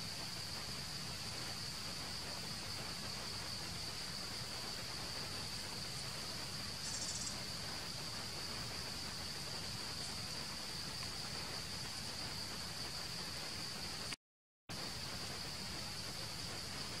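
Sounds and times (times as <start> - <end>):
insect buzz: 0.0 - 14.2
insects droning: 0.0 - 17.0.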